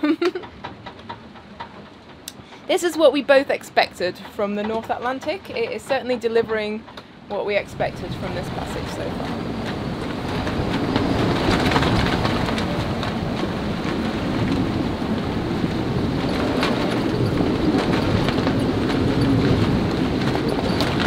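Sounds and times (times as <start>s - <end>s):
breaking seas rushing: 0.0s - 21.0s
gale-force wind: 0.0s - 21.0s.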